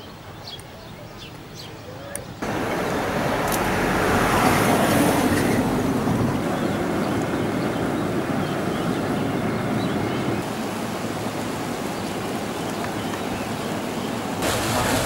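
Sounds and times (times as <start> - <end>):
hot springs venting steam: 2.4 - 15.0.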